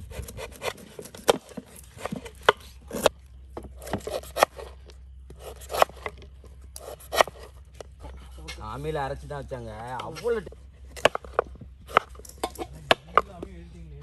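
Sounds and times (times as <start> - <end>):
knife scraping fruit rind: 0.0 - 9.0, 10.0 - 13.2.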